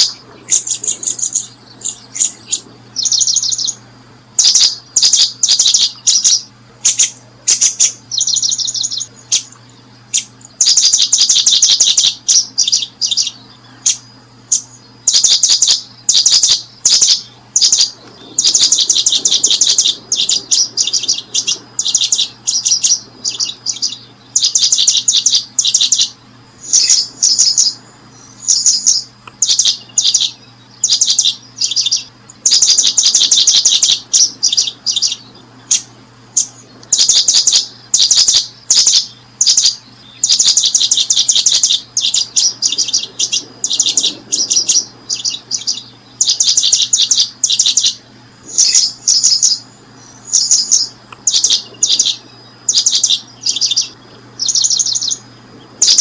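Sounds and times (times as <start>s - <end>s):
bird chirping: 0.0s - 56.0s
faint low hum: 0.0s - 56.0s.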